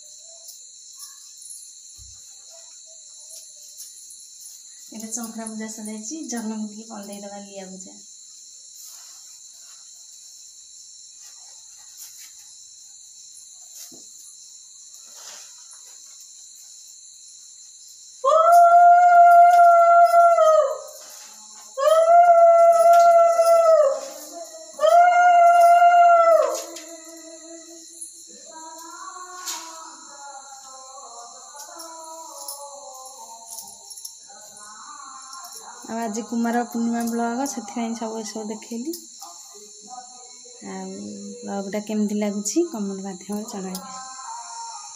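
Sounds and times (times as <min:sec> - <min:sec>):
crickets chirring: 0:00.0 - 0:44.9.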